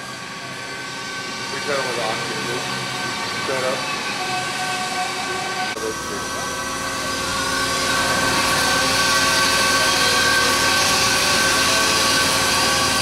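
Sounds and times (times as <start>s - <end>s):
factory machinery hiss and tones: 0.0s - 13.0s.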